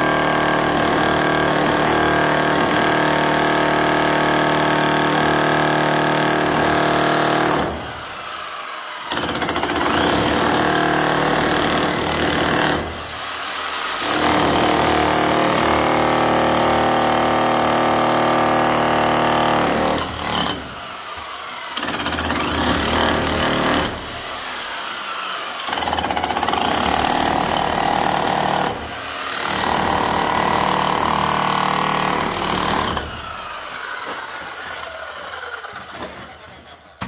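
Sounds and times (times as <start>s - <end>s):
demolition hammer chipping concrete: 0.0s - 8.4s, 9.0s - 37.0s.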